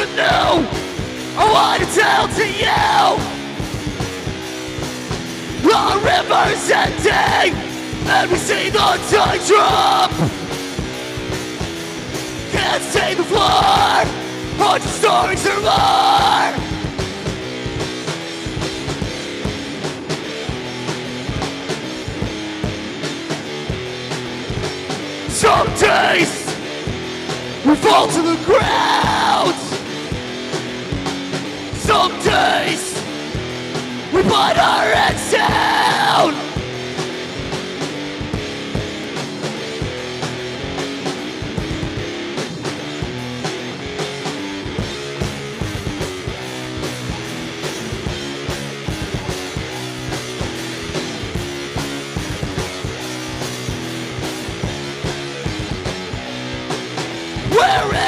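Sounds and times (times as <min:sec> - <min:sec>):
drum kit steady beat: 0:00.0 - 0:58.0
rock guitars: 0:00.0 - 0:58.0.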